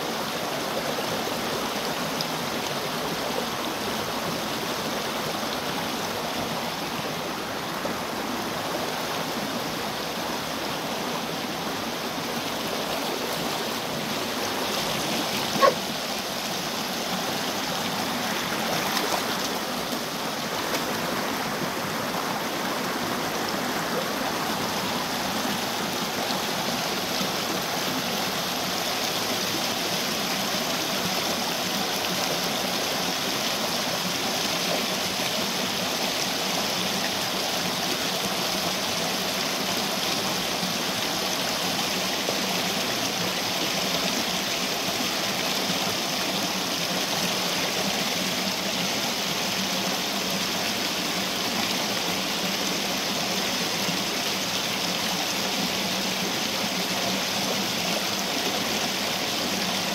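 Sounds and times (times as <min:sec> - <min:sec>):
river rushing over stones: 0:00.0 - 0:59.9.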